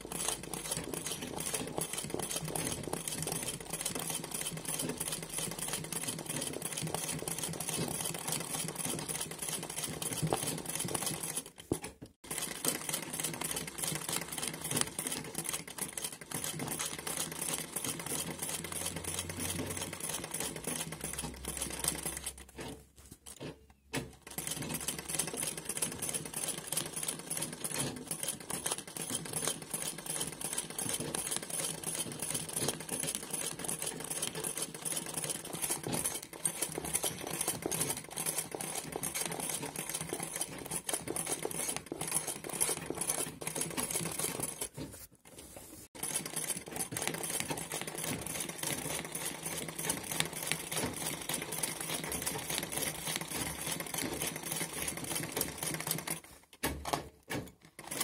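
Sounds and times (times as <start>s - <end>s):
sewing machine clattering: 0.0s - 45.1s, 45.9s - 58.0s.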